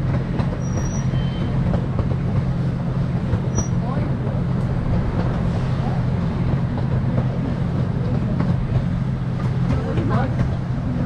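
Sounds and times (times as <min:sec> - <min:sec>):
miniature train rumbling on rails: 0:00.0 - 0:11.0.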